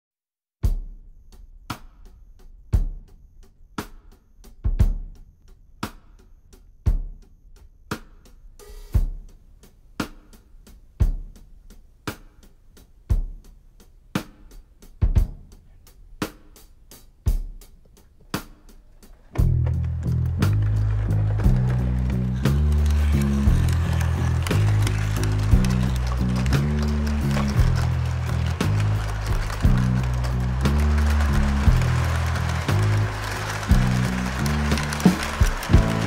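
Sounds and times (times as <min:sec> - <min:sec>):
drum kit beat: 0:00.6 - 0:36.0.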